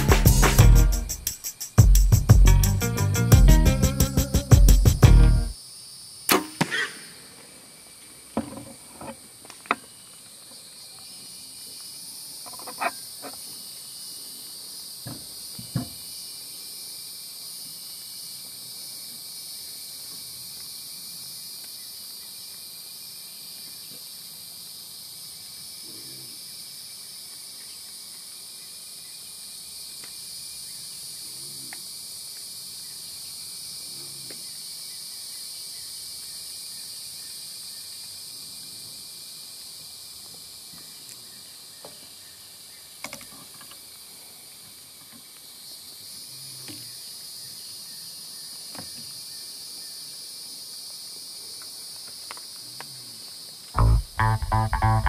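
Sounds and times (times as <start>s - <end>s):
insects buzzing: 0.0s - 52.6s.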